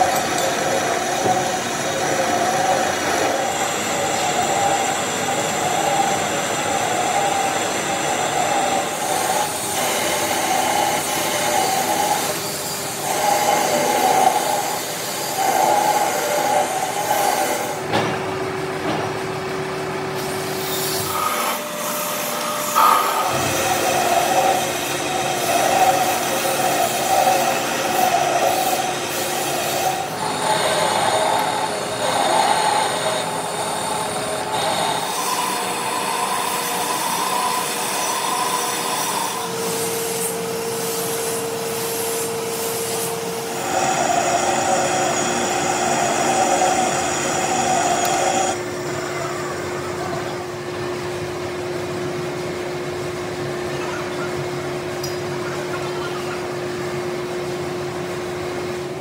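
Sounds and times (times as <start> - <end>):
lathe humming: 0.0 - 17.9, 19.6 - 51.6.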